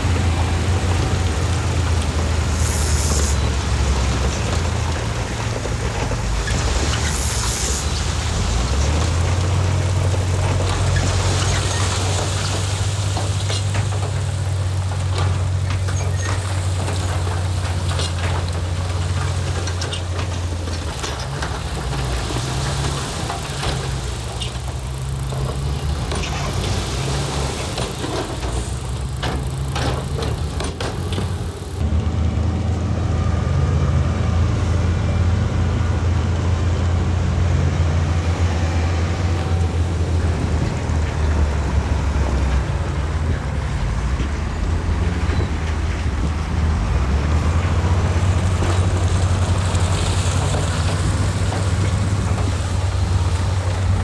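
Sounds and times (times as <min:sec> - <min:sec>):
diesel construction machinery running: 0:00.0 - 0:54.0.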